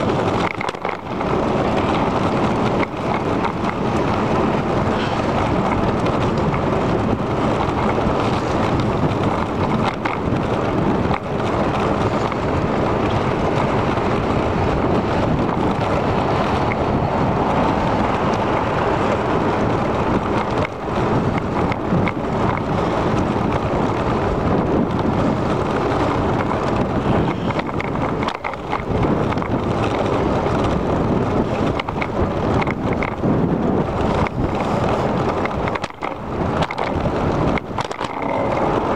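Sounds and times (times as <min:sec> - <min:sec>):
bicycle tyre and road noise: 0:00.0 - 0:38.9
wind buffeting microphone: 0:00.0 - 0:38.9.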